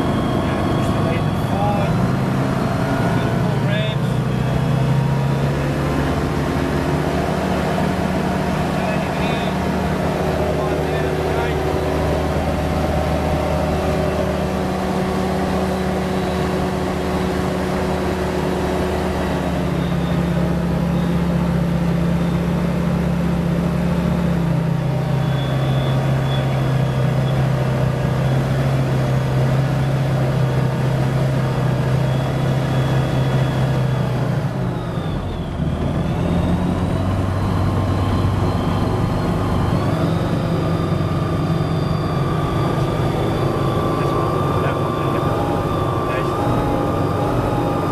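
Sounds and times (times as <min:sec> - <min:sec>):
aircraft engine and propeller: 0:00.0 - 0:47.9.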